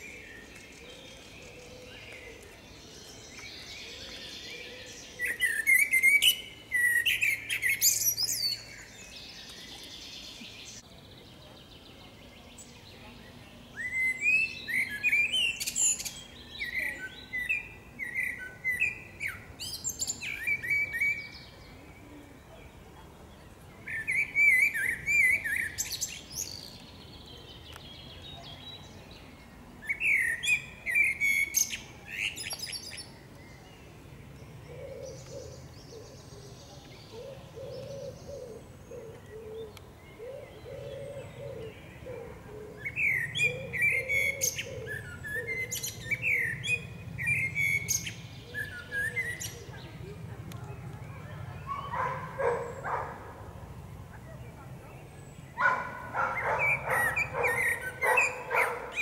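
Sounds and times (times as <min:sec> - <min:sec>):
blackbird singing: 0:00.0 - 0:53.3, 0:54.0 - 0:59.0.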